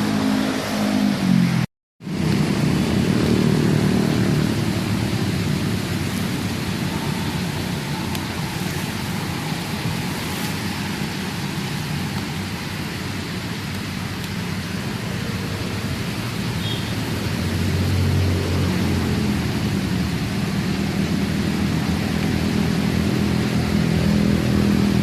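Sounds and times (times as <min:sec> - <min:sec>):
steady rain falling: 0:02.0 - 0:25.0.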